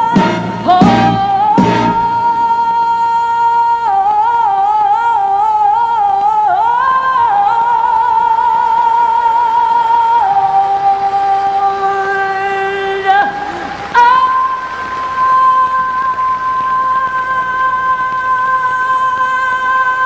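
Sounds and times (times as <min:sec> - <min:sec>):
person singing long high notes: 0:00.0 - 0:20.0.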